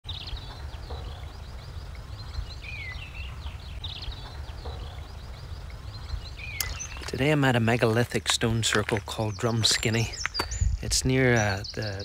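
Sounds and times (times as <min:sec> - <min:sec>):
birds chirping and whistling: 0:00.1 - 0:12.0
wind rumble on microphone: 0:00.1 - 0:12.0.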